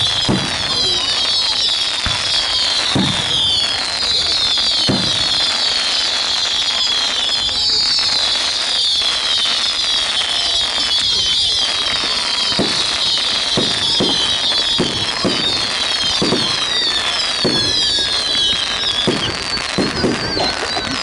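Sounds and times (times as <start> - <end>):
deep fireworks booms: 0.0 - 21.0
fireworks crackling: 0.0 - 21.0.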